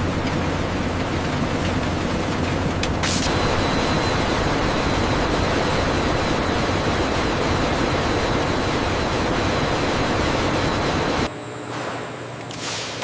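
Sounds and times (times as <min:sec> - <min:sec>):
factory rushing noise: 0:00.0 - 0:13.0.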